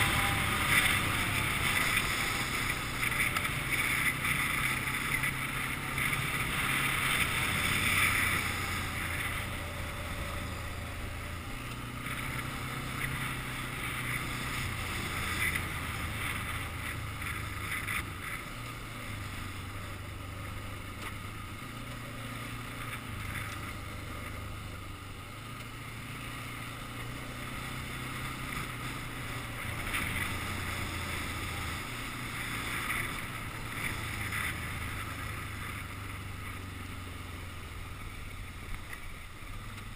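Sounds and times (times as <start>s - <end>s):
atv engine drone: 0.0s - 39.9s.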